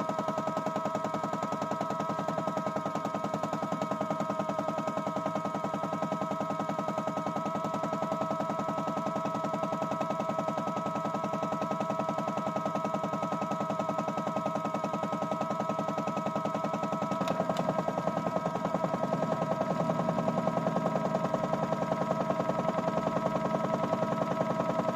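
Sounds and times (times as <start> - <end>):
toy washing machine motor whine: 0.0 - 24.9.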